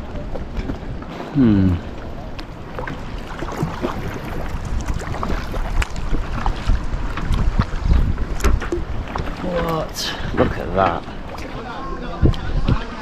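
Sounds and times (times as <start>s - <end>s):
paddle splashing in water: 0.0s - 13.0s
water lapping at hull: 0.0s - 13.0s
wind rumbling on microphone: 0.0s - 13.0s.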